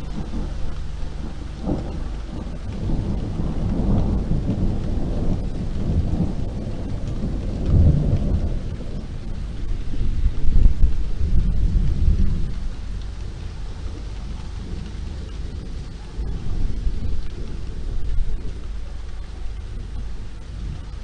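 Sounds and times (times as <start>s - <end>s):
rain falling: 0.0s - 21.0s
rolling thunder: 0.0s - 21.0s.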